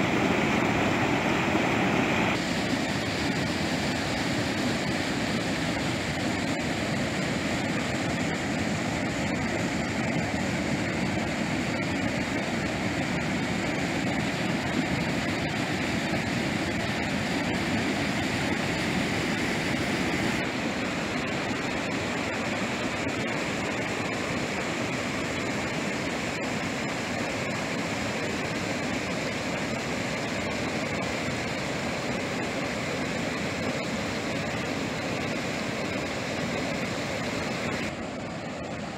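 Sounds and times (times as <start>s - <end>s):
river water rushing over cascade: 0.0s - 38.9s.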